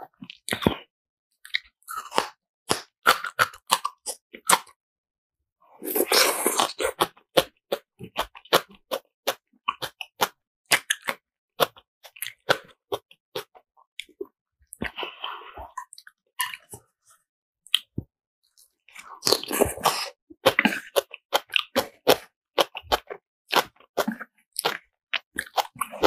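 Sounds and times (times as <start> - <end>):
wet chewing mouth clicks: 1.4 - 4.7, 5.9 - 15.0, 15.7 - 16.8, 18.6 - 26.0.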